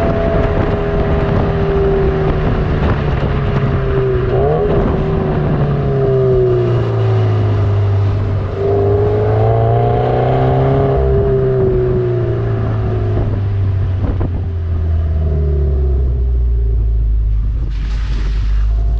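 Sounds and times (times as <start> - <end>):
car engine exhaust note: 0.0 - 18.9.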